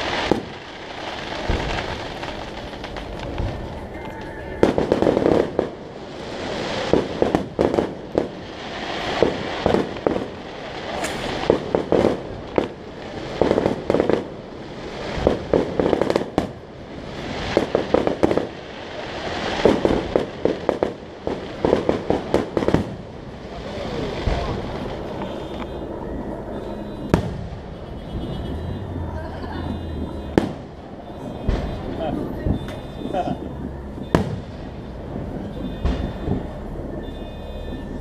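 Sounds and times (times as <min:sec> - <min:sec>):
fireworks cracking and popping: 0:00.0 - 0:38.0.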